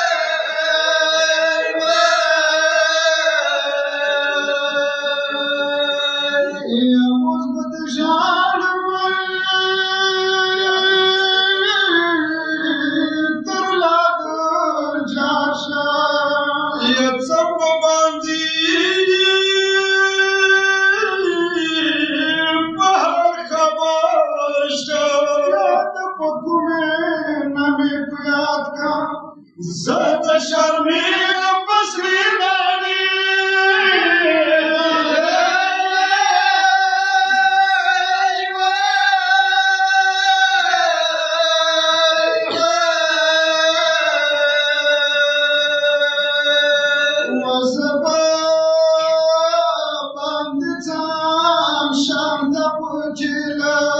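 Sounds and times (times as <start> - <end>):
person chanting a lament: 0.0 - 53.9.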